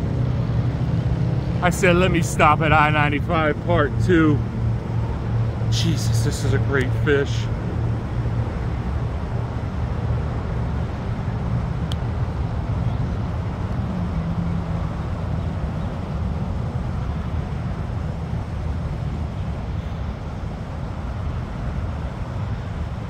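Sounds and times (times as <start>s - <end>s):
highway traffic rumble: 0.0s - 23.0s.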